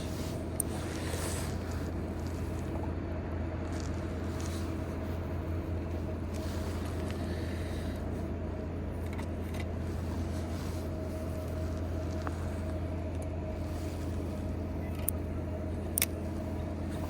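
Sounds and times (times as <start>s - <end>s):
faint constant whine: 0.0s - 17.0s
low engine hum: 0.0s - 17.0s.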